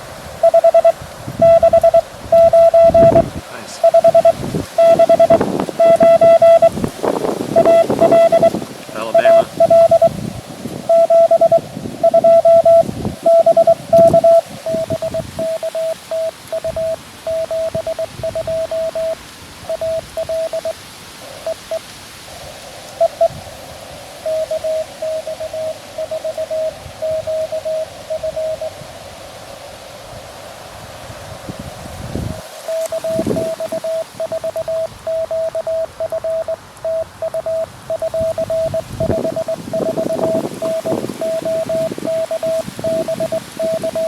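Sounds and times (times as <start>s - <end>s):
receiver hiss: 0.0s - 44.0s
morse code tone: 0.4s - 10.2s, 10.8s - 20.8s, 21.4s - 21.8s, 23.0s - 23.4s, 24.2s - 28.7s, 32.7s - 44.0s.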